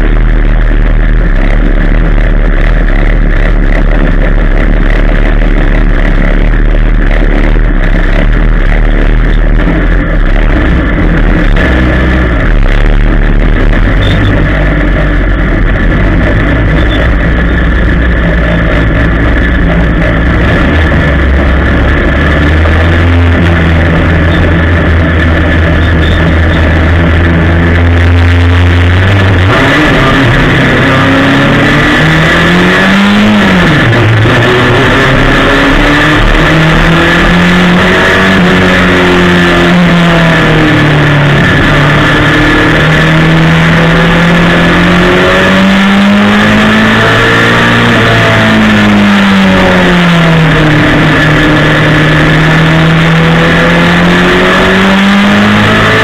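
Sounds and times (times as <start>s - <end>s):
race car engine revving: 0.0s - 56.0s
steady high whine: 0.0s - 56.0s.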